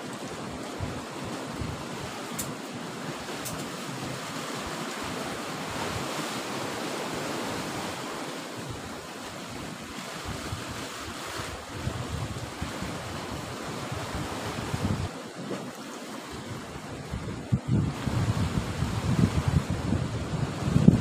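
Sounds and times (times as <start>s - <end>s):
sea surf washing around rocks: 0.0s - 21.0s.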